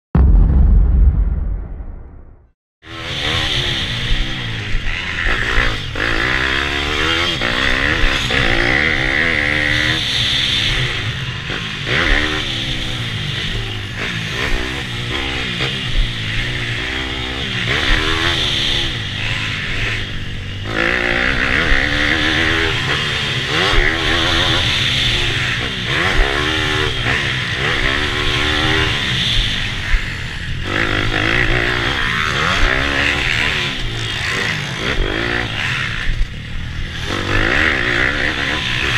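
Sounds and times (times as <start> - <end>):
pit bike engine revving: 2.9 - 38.9.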